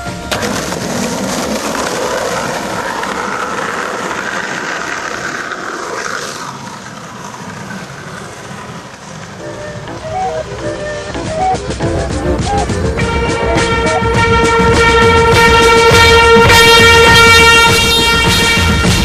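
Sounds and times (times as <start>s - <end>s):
skateboard wheels rolling on concrete: 0.0s - 19.0s.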